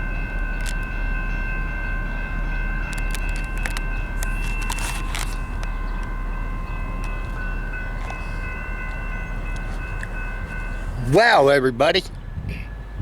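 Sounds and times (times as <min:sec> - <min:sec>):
high-pitched wheel ringing: 0:00.0 - 0:13.0
train cars rumbling past: 0:00.0 - 0:13.0.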